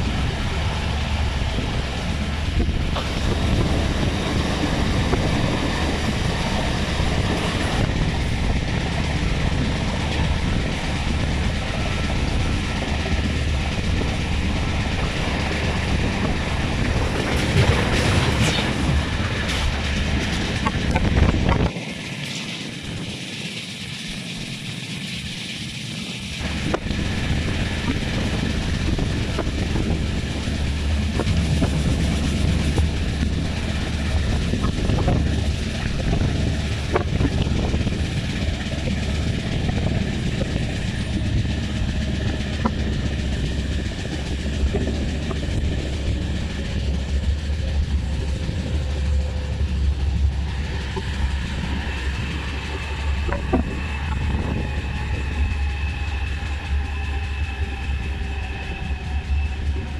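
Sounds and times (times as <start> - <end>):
wind on microphone: 0.0 - 24.7, 26.4 - 59.9
train wheels rumbling on rails: 0.0 - 59.9.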